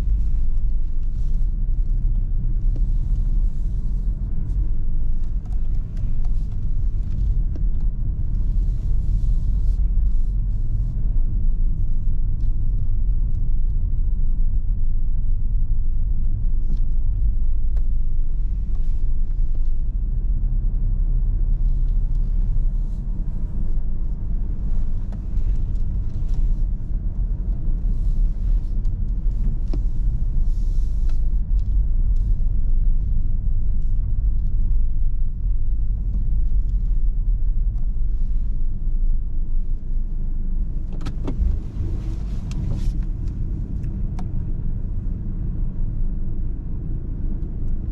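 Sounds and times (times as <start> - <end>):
car engine and tyres rumbling: 0.0 - 47.9.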